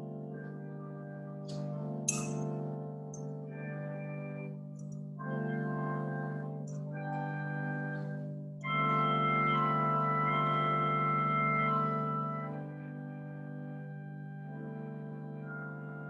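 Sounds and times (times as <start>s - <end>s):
organ playing slow chords: 0.0s - 16.0s.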